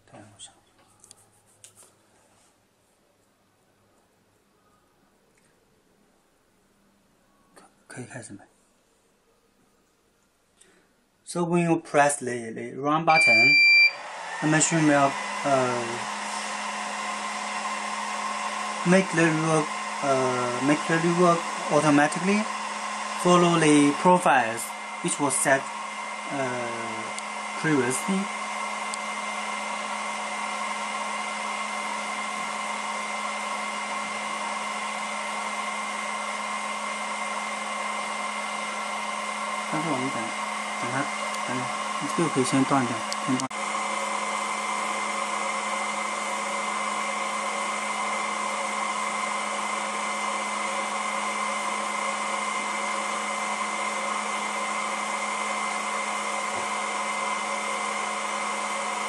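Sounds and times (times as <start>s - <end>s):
blower and fans humming: 11.3s - 59.0s.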